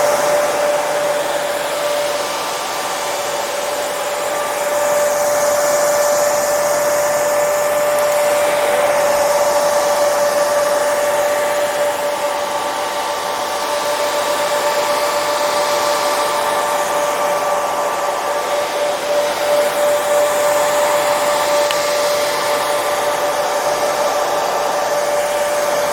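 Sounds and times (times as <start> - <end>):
hair dryer running: 0.0 - 25.9.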